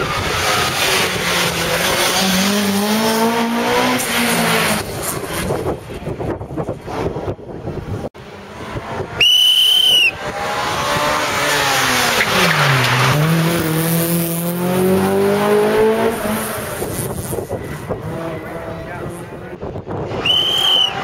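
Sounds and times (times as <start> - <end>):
car engine revving: 0.0 - 5.8, 8.2 - 21.0.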